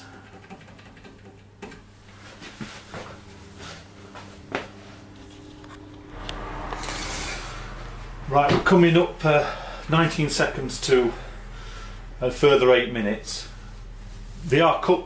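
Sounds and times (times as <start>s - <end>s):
electric oven humming: 0.0s - 15.0s
deeper hum: 2.8s - 15.0s.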